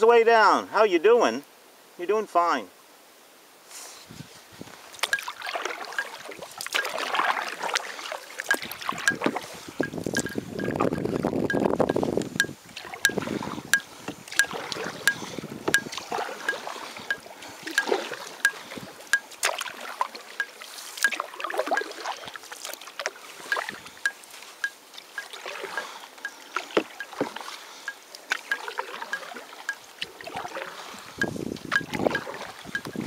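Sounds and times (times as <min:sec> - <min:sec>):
paddle splashing water: 0:03.8 - 0:33.0.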